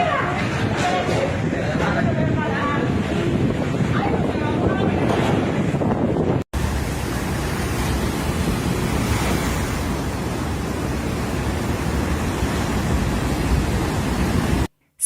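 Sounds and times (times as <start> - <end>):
hurricane wind: 0.0 - 14.7
surf: 0.0 - 14.7.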